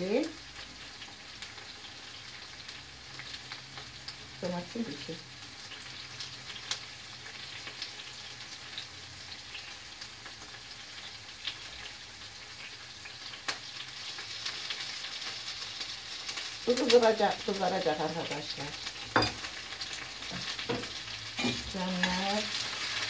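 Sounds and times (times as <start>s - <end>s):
peppers sizzling in oil: 0.0s - 23.0s.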